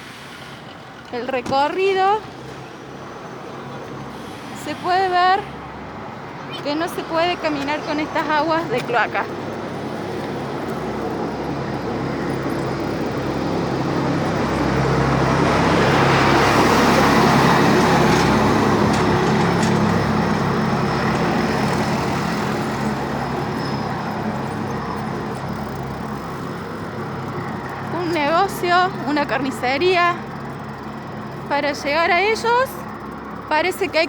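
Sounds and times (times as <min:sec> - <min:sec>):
vehicle passing: 0:03.6 - 0:34.0.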